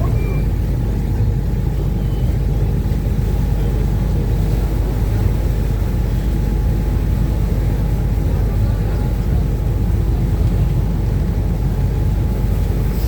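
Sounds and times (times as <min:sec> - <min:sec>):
boat engines rumbling: 0:00.0 - 0:13.0.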